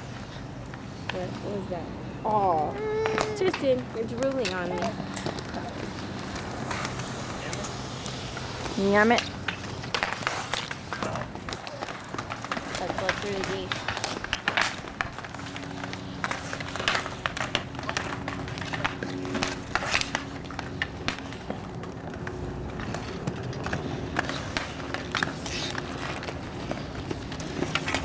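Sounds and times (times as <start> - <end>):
hockey sticks clacking: 2.9 - 28.0.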